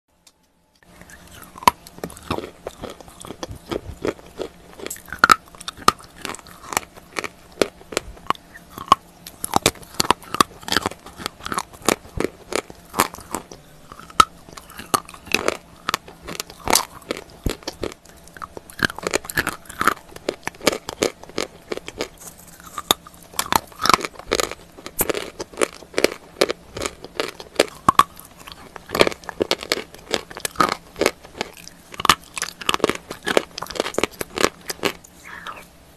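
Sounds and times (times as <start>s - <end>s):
chalk crunching being chewed: 0.8s - 35.7s.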